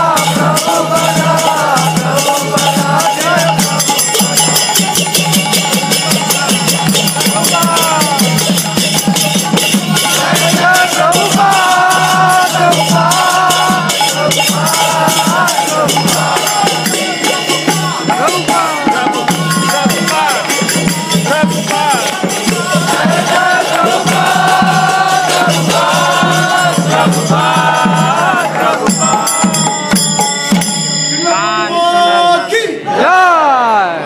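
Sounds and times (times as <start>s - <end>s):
group chanting in unison: 0.0s - 4.9s, 5.5s - 30.0s, 31.2s - 34.0s
hand drum beat: 0.0s - 31.0s
jingling hand cymbals: 0.0s - 31.9s.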